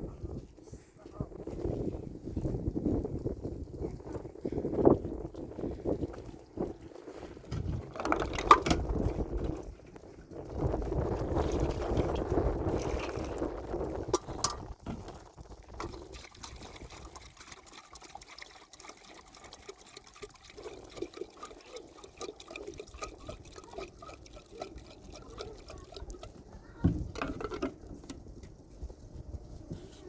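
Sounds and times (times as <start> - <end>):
water trickling and pouring: 1.3 - 29.0
water gurgles and drips: 1.3 - 30.0.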